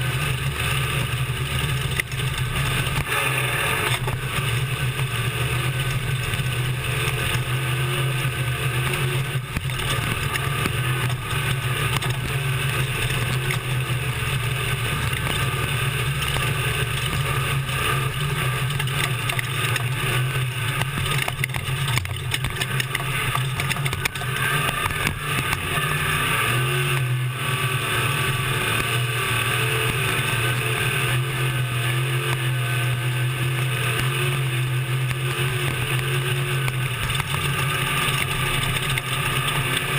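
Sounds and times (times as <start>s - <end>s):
truck rattling over rough ground: 0.0s - 27.5s, 28.4s - 39.9s
truck engine running hard: 0.0s - 39.9s.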